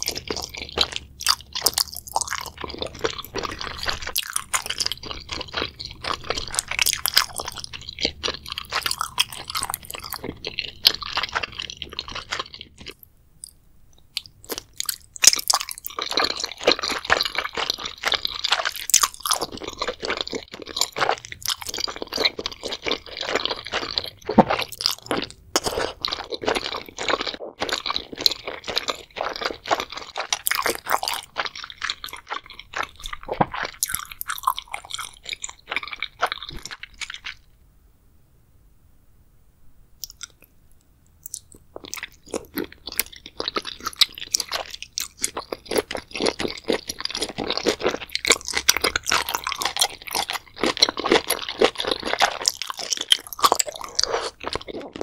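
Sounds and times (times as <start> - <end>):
person chewing crunchy food: 0.0 - 37.5, 40.0 - 55.0.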